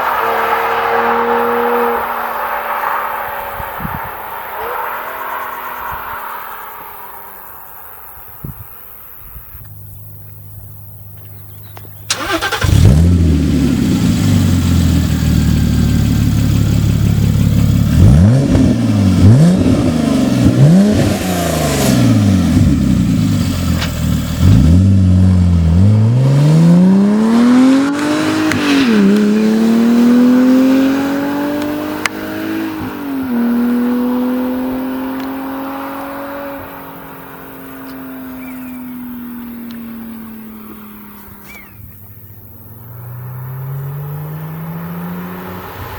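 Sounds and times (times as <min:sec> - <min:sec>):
car accelerating hard: 0:00.0 - 0:07.4, 0:12.1 - 0:45.9
car engine revving: 0:00.0 - 0:07.6, 0:12.0 - 0:45.9.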